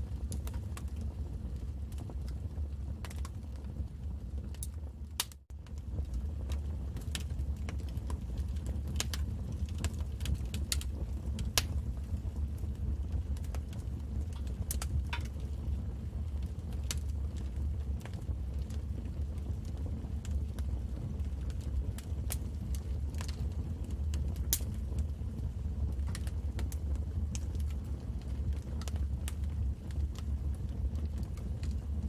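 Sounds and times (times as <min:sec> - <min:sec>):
fire crackles and pops: 0:00.0 - 0:32.0
low rumble of fire: 0:00.0 - 0:32.0.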